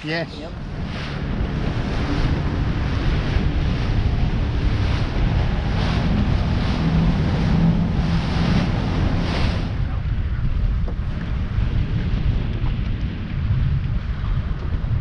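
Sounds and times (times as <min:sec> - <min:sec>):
outboard motor hum: 0:00.0 - 0:15.0
water rushing in boat wake: 0:00.0 - 0:15.0
wind buffeting microphone: 0:00.0 - 0:15.0.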